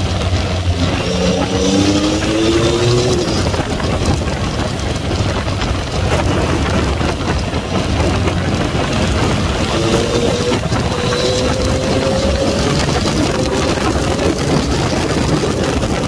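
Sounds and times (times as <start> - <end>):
motorcycle engine: 0.0 - 16.0
wind buffeting microphone: 0.0 - 16.0.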